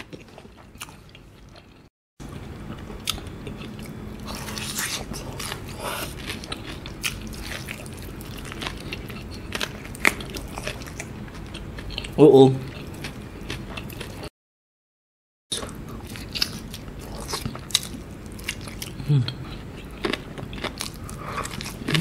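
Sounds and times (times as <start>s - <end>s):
biting and chewing fried chicken: 0.0s - 14.3s, 15.5s - 22.0s.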